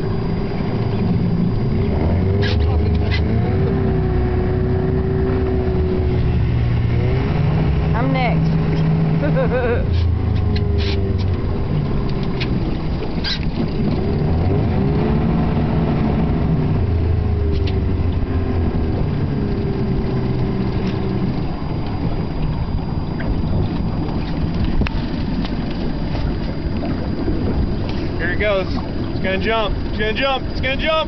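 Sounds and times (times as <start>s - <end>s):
boat motor running: 0.0s - 31.0s
low rumble: 0.0s - 31.0s.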